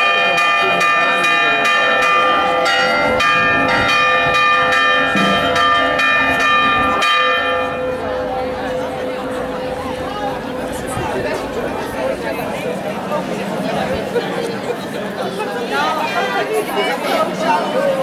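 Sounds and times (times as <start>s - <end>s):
church bells ringing a peal: 0.0s - 16.5s.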